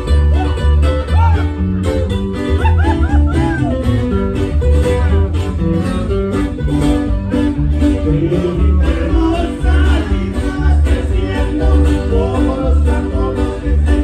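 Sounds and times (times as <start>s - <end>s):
heavy bass line: 0.0s - 14.0s
plucked guitar: 0.0s - 14.0s
ranchero band music: 0.0s - 14.0s.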